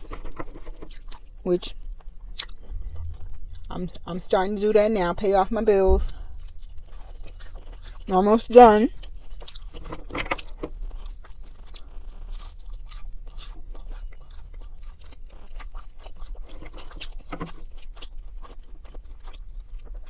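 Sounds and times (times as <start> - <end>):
chewing crunchy chicken nugget: 0.0 - 4.1, 6.0 - 20.0
steady low hum: 0.0 - 20.0.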